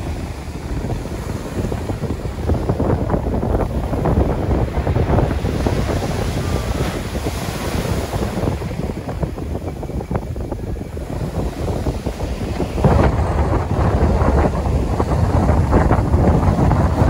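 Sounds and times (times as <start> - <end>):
waves breaking on pebble beach: 0.0 - 17.0
wind buffeting microphone: 0.0 - 17.0.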